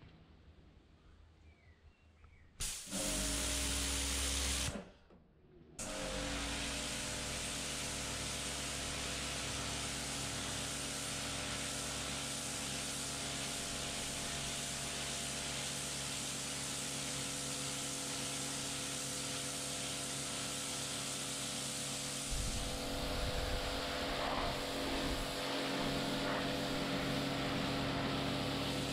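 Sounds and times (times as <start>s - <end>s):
high-pressure water jet hissing: 2.6s - 4.7s, 5.8s - 28.9s
pressure washer pump humming: 2.6s - 4.8s, 5.8s - 28.9s.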